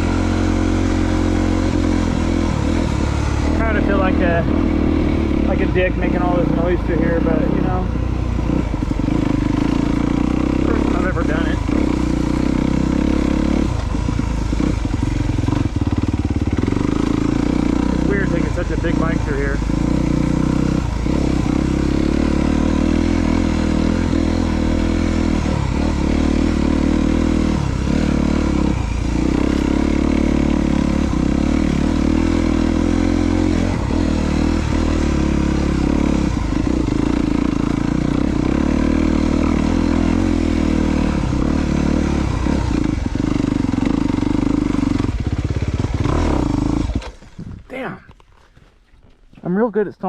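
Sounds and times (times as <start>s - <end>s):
dirt bike engine running: 0.0s - 49.8s.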